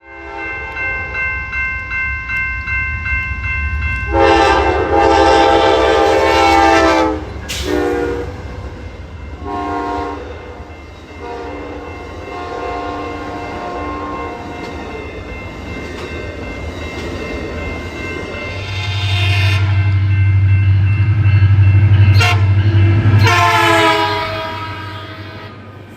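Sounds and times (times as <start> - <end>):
locomotive multi-chime horn: 0.0 - 8.5, 9.4 - 15.6, 17.3 - 25.8
crossing bells ringing: 0.0 - 25.9
low rumble of train: 0.0 - 25.9.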